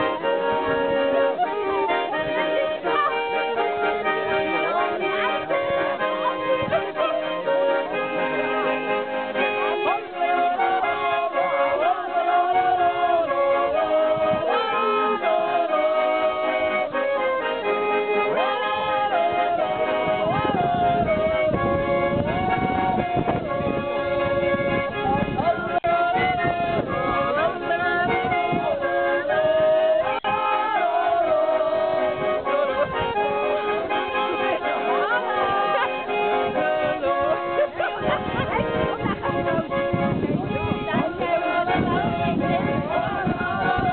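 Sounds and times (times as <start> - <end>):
button accordions playing folk tune: 0.0 - 43.9
voices singing yodel-like: 0.0 - 43.9.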